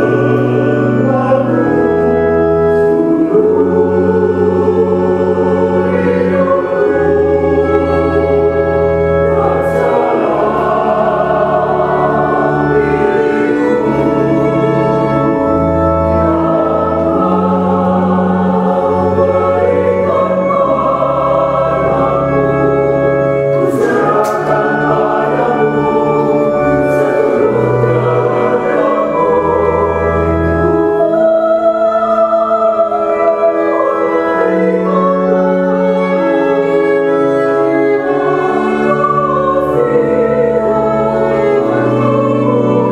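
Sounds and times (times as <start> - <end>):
mixed choir singing a hymn: 0.0 - 42.9
organ bass notes: 0.0 - 42.9
violin playing: 0.0 - 42.9.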